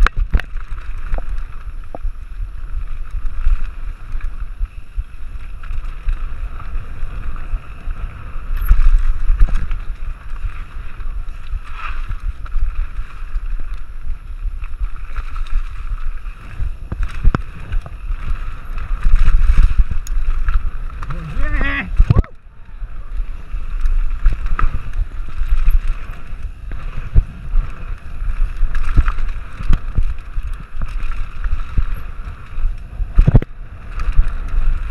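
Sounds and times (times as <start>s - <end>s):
bike knocks and rattles: 0.0s - 22.2s, 23.3s - 34.9s
tyre noise on dirt: 0.0s - 34.9s
wind buffeting microphone: 0.0s - 34.9s.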